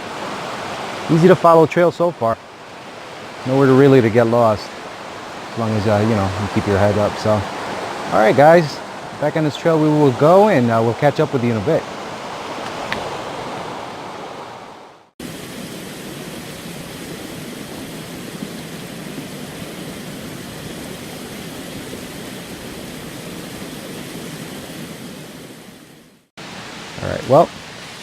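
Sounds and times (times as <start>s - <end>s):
rushing mountain creek: 0.0s - 28.0s.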